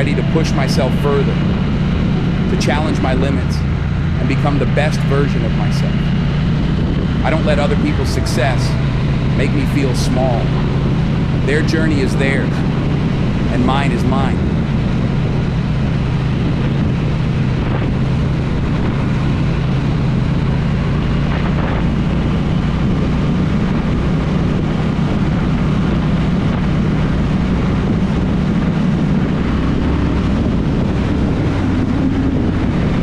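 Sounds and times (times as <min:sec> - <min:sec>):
motorcycle engine running: 0:00.0 - 0:33.0
wind noise: 0:00.0 - 0:33.0.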